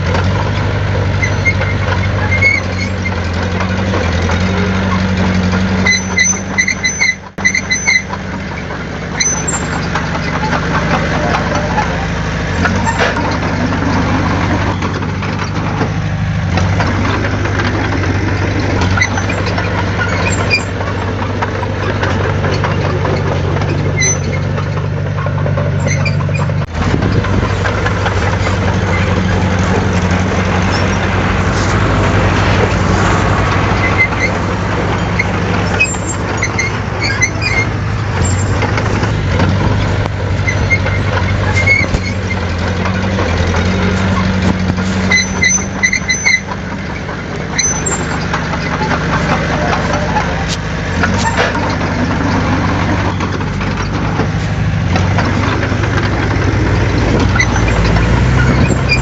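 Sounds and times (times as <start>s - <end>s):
heavy diesel engine running: 0.0s - 59.0s
high-pitched squeaks: 0.0s - 59.0s.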